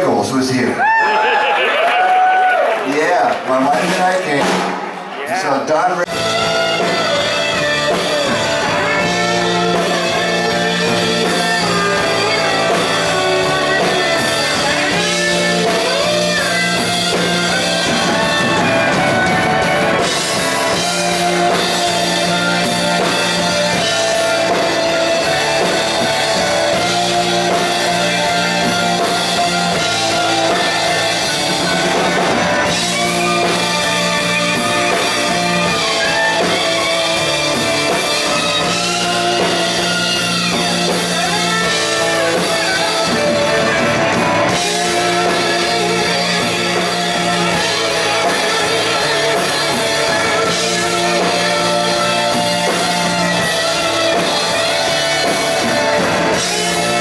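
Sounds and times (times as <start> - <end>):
drum kit: 0.0 - 57.0
electric guitars: 0.0 - 57.0.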